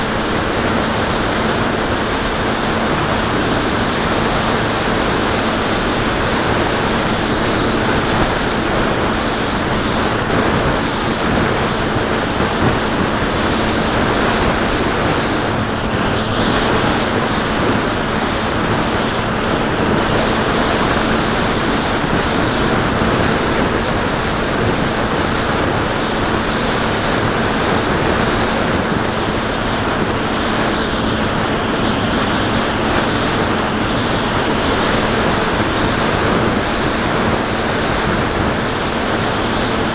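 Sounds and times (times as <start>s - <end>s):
airflow rushing over camera: 0.0s - 39.9s
electric motor and propeller drone: 0.0s - 39.9s
low steady hum: 0.0s - 39.9s.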